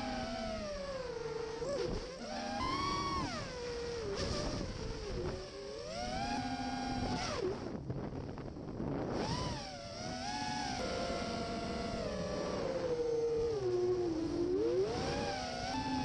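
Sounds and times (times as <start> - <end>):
drone propellers whining: 0.0 - 16.0
wind rumble on microphone: 0.0 - 16.0.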